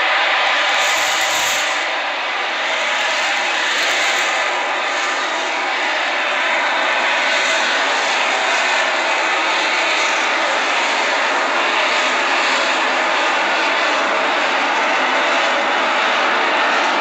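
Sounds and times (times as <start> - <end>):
rocket engine roar: 0.0 - 17.0.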